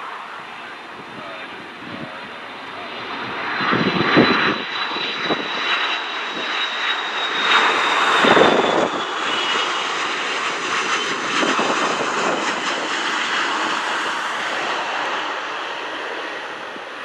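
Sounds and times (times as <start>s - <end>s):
jet airliner roar with high whine: 0.0s - 17.0s.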